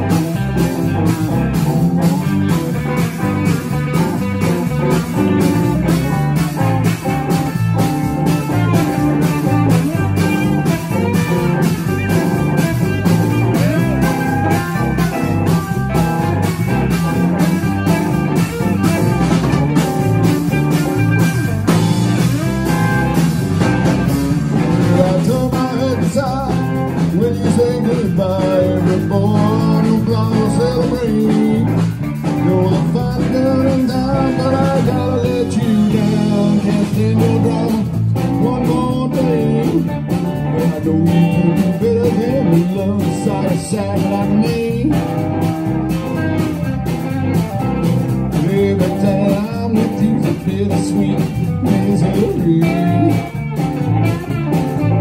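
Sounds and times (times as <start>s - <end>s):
live blues band playing: 0.0s - 55.0s.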